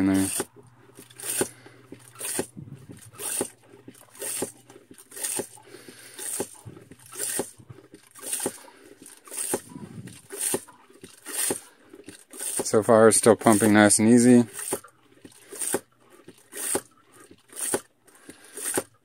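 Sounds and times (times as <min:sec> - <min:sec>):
hand pump water filter pumping: 0:00.0 - 0:19.0.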